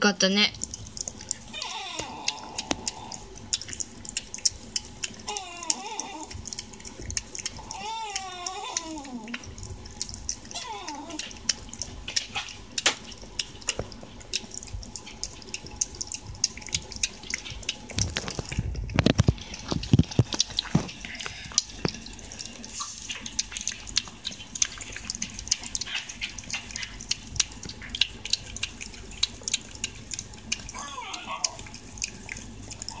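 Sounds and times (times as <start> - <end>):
cat eating wet food: 0.5 - 33.0.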